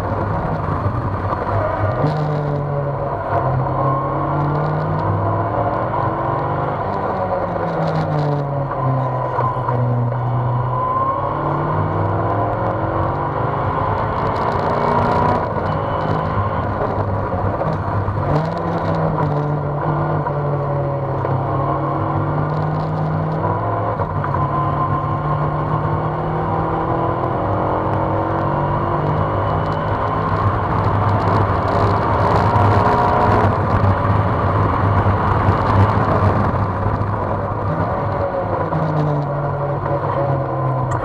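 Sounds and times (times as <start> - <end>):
sports car engine revving: 0.0 - 41.0.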